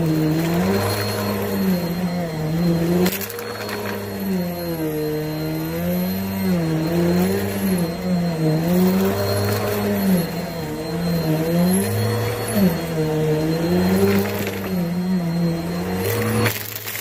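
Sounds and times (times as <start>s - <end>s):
vacuum cleaner on carpet: 0.0s - 17.0s.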